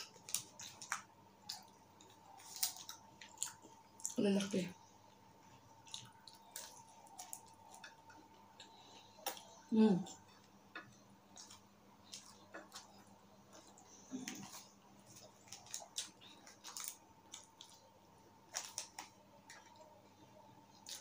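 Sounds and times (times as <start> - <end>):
chewing and lip-smacking: 0.0 - 9.6, 10.2 - 19.9, 20.7 - 21.0.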